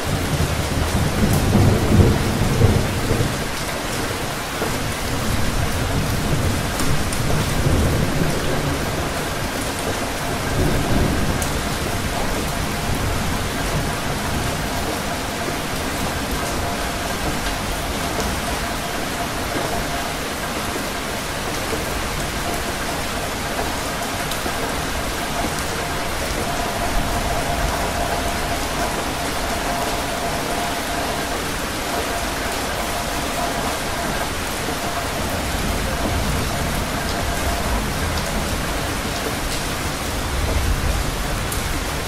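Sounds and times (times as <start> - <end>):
low rumble of thunder: 0.0 - 42.0
steady rain falling: 0.0 - 42.0.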